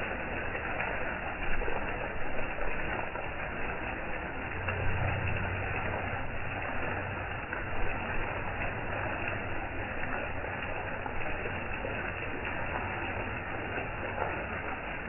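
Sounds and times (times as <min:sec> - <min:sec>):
low hum: 0:00.0 - 0:15.0
rain falling: 0:00.0 - 0:15.0.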